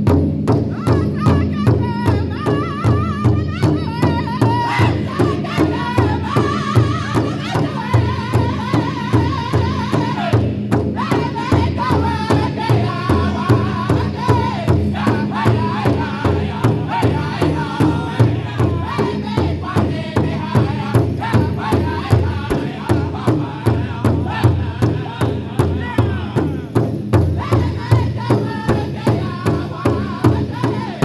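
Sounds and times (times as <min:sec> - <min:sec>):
large drum steady beat: 0:00.0 - 0:31.0
people singing in high voices: 0:00.6 - 0:31.0.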